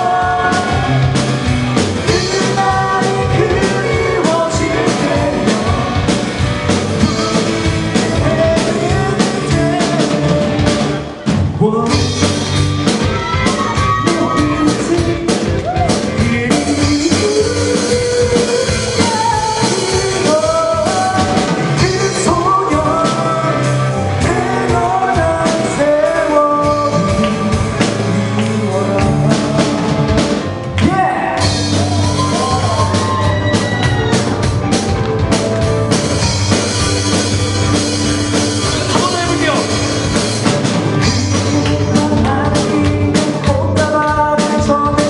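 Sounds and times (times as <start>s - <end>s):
person singing: 0.0s - 1.3s, 2.0s - 6.3s, 7.0s - 34.3s, 40.9s - 45.0s
live rock band: 0.0s - 45.0s.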